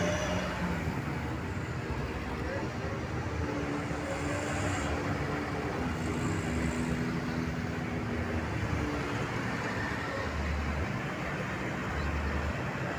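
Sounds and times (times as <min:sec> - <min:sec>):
passing vehicle engines: 0:00.0 - 0:12.9.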